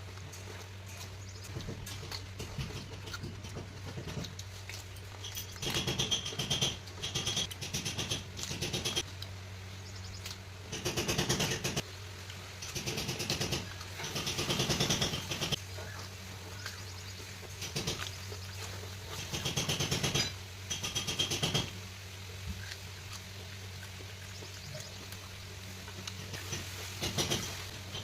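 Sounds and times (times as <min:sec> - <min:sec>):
crunchy raw food chewing: 0:00.0 - 0:10.6, 0:12.2 - 0:20.1, 0:21.5 - 0:27.4
steady low hum: 0:00.0 - 0:28.0.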